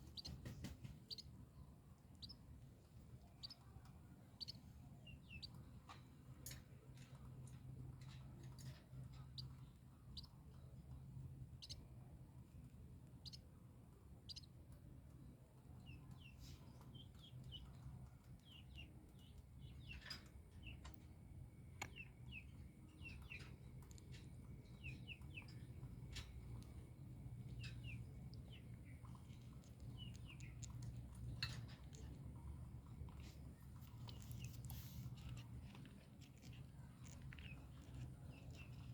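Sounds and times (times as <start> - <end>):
baby birds cheeping: 0.0 - 1.4, 2.1 - 2.5, 3.1 - 5.9, 8.0 - 11.9, 13.2 - 13.5, 14.2 - 14.6, 15.8 - 38.9
low steady hum: 0.0 - 38.9.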